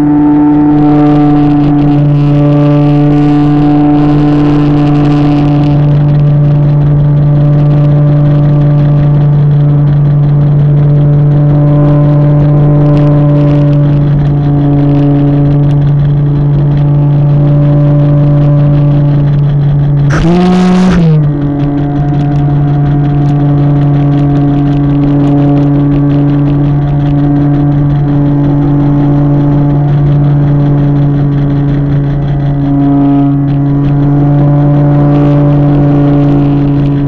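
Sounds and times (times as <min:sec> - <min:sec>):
model plane motor and propeller hum: 0:00.0 - 0:37.0.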